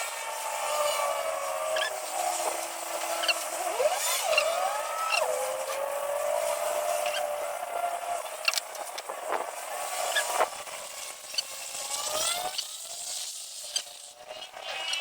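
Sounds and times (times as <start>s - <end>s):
blender motor running: 0.0s - 8.8s, 9.6s - 15.0s.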